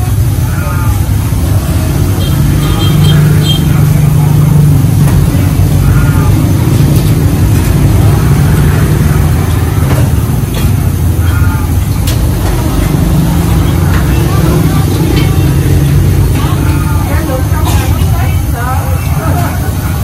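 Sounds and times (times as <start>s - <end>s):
faint voices: 0.0s - 20.0s
low vehicle engine rumble: 0.0s - 20.0s.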